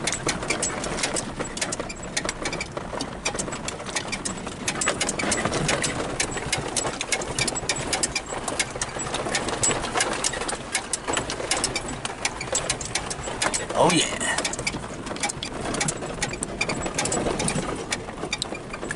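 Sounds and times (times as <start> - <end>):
gravel clicks and rattles from tyres: 0.0 - 18.9
vehicle engine and road noise: 0.0 - 18.9.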